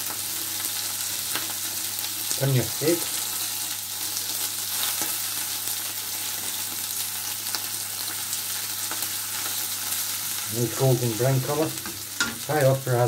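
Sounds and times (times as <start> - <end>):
fish sizzling in a frying pan: 0.0 - 13.0.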